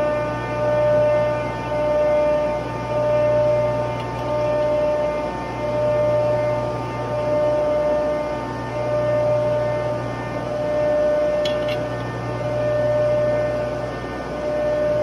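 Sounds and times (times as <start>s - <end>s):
machinery humming: 0.0s - 15.0s
pulsing machine whine: 0.0s - 15.0s.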